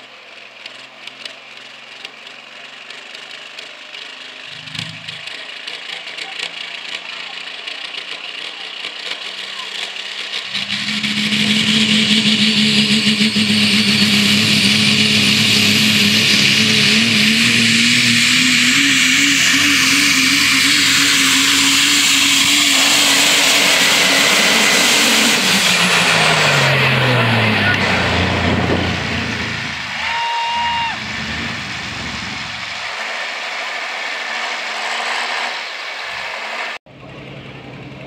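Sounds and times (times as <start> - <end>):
diesel truck engine at full throttle: 0.0 - 38.0.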